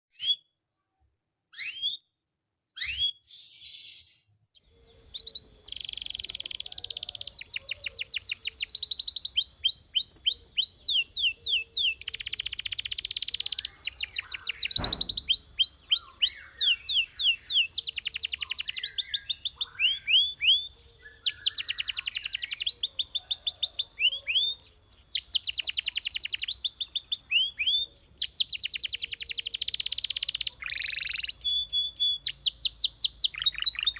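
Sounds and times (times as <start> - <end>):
canary singing trills: 1.5 - 2.1, 2.8 - 33.9.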